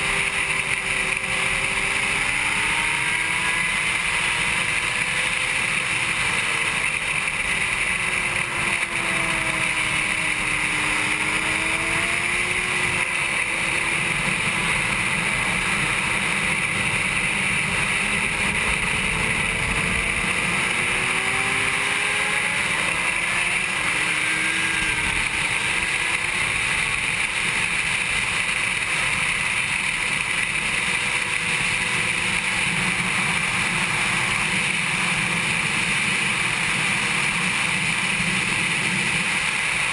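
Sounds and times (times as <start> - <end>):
motorcycle engine: 0.0 - 39.9
wind rushing on camera: 0.0 - 39.9.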